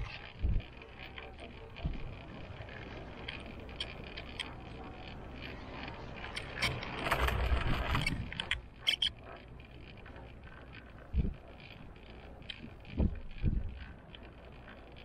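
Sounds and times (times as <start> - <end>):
cable car rumbling: 0.0 - 15.0
cable car running and wind noise: 0.0 - 15.0
small clicks and rattles: 0.0 - 15.0.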